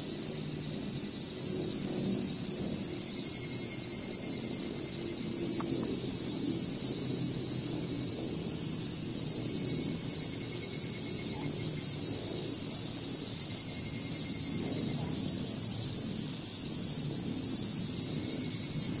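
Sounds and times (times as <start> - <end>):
cicada chorus: 0.0 - 19.0.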